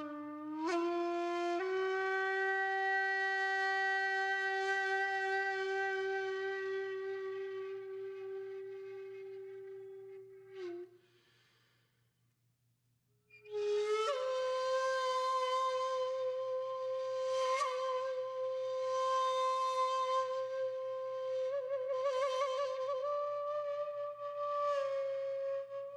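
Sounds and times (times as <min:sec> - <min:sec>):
flute-like wind instrument notes: 0:00.0 - 0:11.0, 0:13.4 - 0:25.9.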